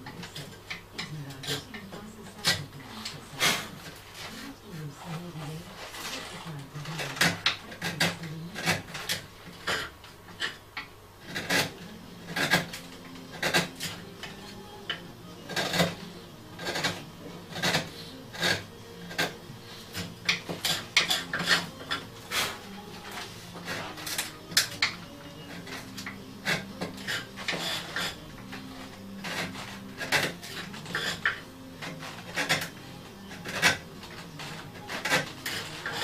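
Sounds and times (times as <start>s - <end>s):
metal hand tool scraping wood: 0.0s - 36.0s.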